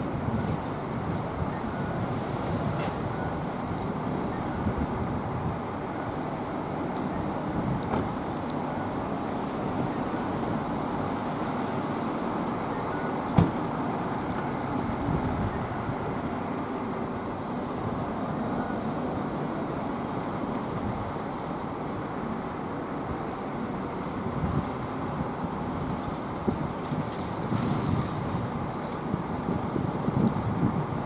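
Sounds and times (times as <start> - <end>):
cars passing on road: 0.0 - 31.0.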